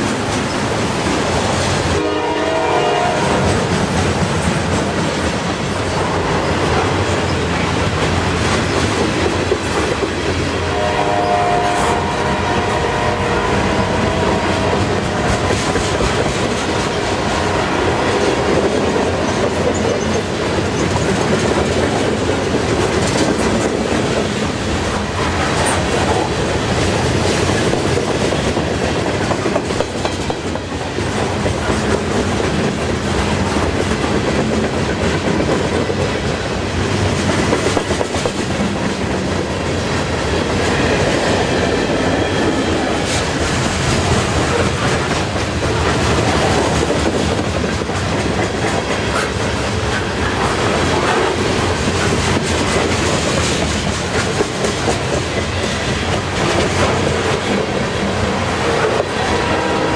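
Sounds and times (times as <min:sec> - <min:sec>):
clickety-clack over rail joints: 0:00.0 - 0:13.0, 0:13.6 - 0:59.9
freight train wheels rumbling: 0:00.0 - 0:59.9.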